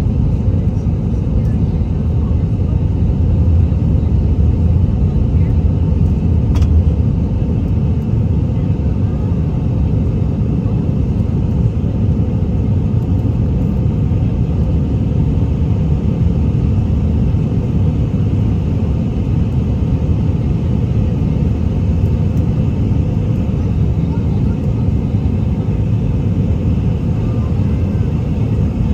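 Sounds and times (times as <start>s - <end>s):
airliner cabin low rumble: 0.0s - 28.9s.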